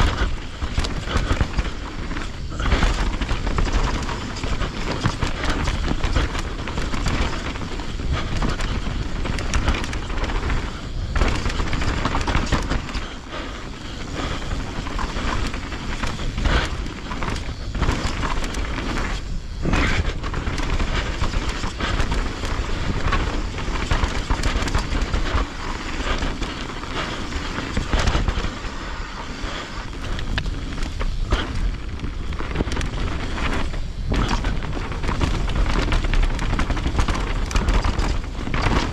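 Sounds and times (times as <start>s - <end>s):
bike knocking and clattering: 0.0s - 38.9s
bike rumbling over rough trail: 0.0s - 38.9s.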